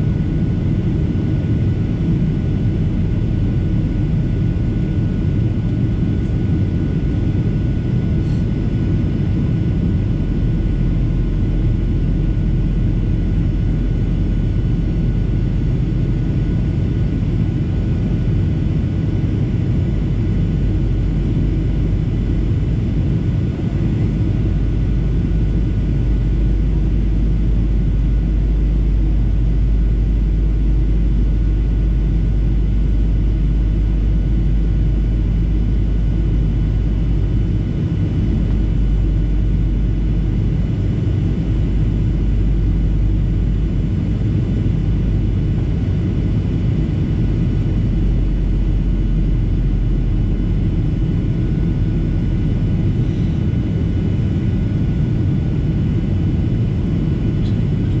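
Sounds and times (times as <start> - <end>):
faint steady whines: 0.0 - 58.0
jet engines rumbling: 0.0 - 58.0.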